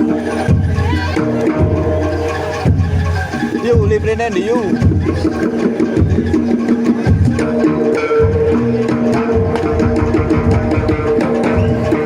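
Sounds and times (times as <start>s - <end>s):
percussion ensemble music: 0.0s - 12.0s.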